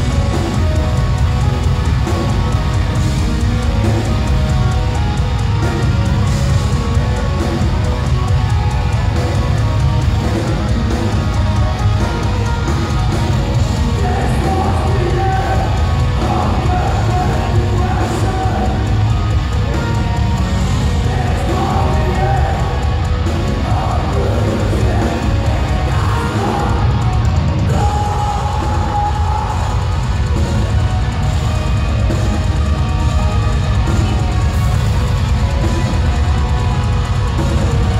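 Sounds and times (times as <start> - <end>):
live metal band playing: 0.0 - 37.9.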